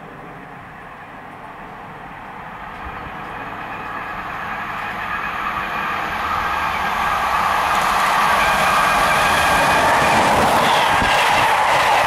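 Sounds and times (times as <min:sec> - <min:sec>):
train approaching at speed: 0:00.0 - 0:12.0.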